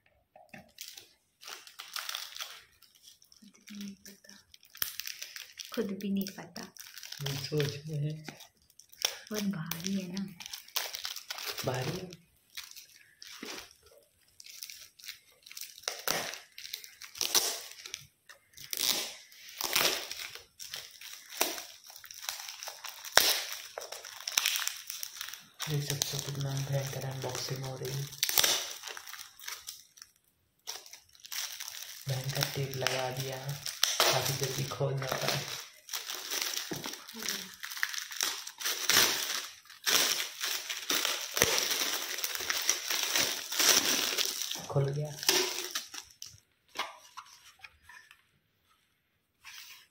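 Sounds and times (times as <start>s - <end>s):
plastic mailer crinkling: 0.6s - 48.3s
wrapping paper crumpling and tearing: 0.6s - 48.3s, 49.4s - 49.9s.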